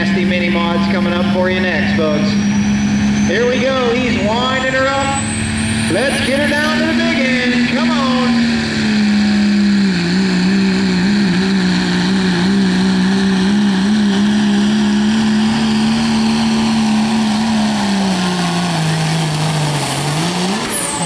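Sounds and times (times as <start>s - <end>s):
diesel engine high-revving drone: 0.0s - 21.0s.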